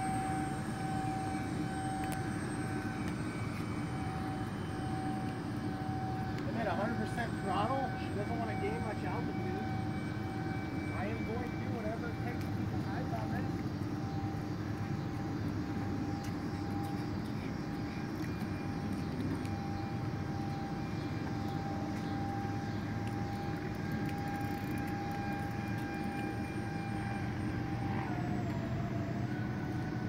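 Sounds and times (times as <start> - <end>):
electric ducted fan jets whining: 0.0 - 30.0.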